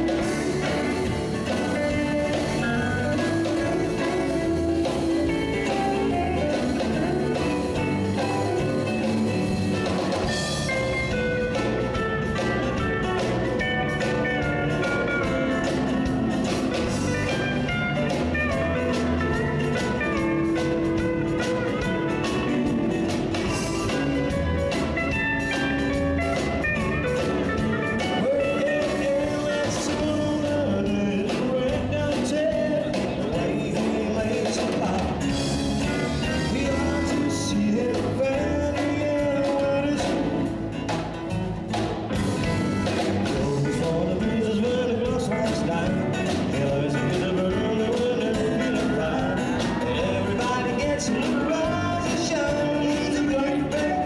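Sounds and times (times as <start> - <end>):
drums: 0.0 - 54.0
electric bass: 0.0 - 54.0
electric guitar: 0.0 - 54.0.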